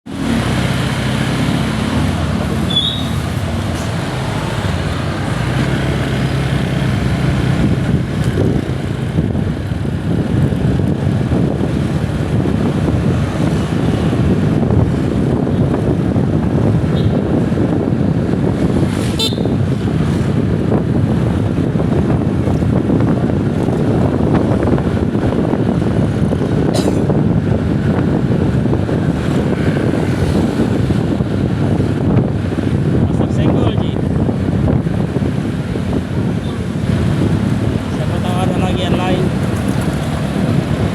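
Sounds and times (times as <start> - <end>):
road traffic rumble: 0.0 - 40.9
engine hum: 0.1 - 40.9.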